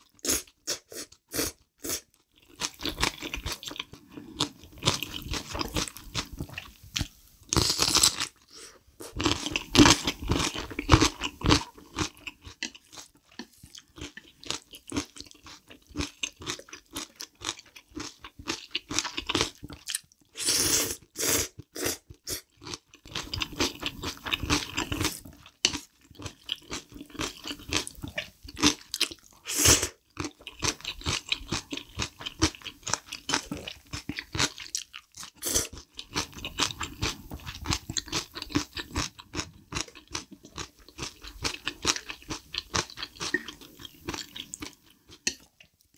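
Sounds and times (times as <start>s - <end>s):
close chewing and crunching: 0.0s - 20.4s, 21.0s - 45.9s.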